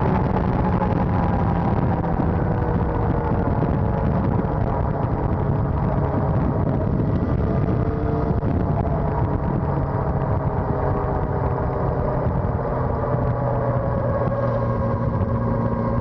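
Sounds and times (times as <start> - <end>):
motorcycle engine running: 0.0 - 16.0
wind rush: 0.0 - 16.0.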